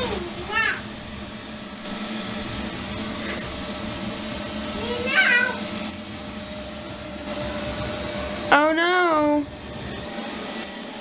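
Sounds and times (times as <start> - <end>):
robot vacuum humming: 0.0 - 11.0.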